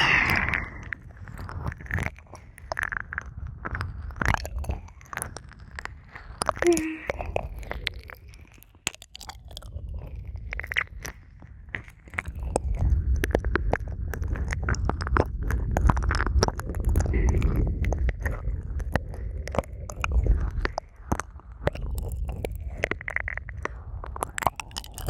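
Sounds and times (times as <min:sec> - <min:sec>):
low muffled rumble: 0:00.0 - 0:07.9, 0:12.4 - 0:25.0.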